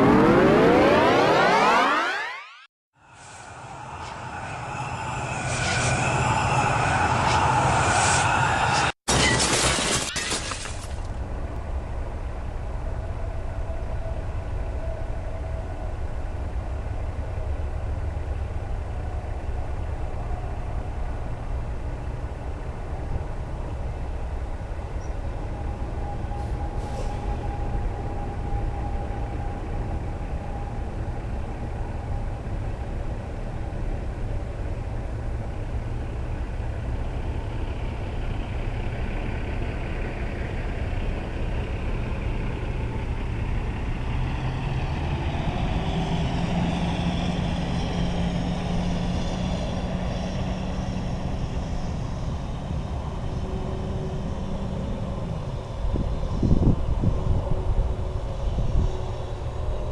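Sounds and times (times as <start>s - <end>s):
diesel truck engine rumbling: 10.9s - 59.9s.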